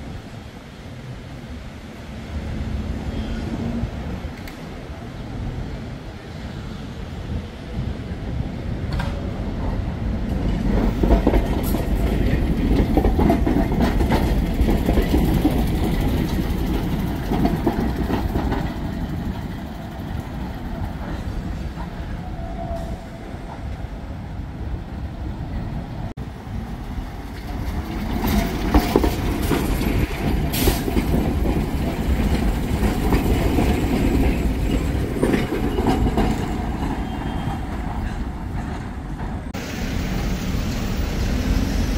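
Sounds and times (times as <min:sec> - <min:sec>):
tram wheels rumbling on rails: 0:00.0 - 0:41.9.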